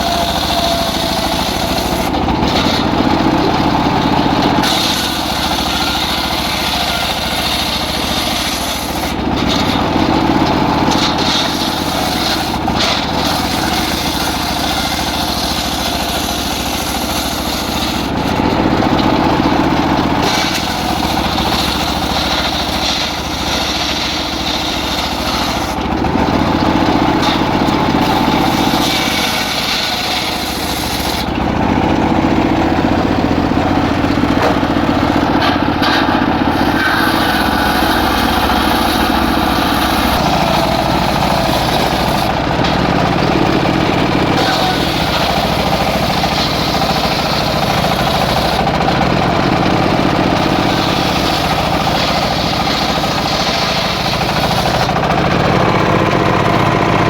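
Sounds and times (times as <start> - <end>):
circular saw cutting wood: 0.0 - 57.0.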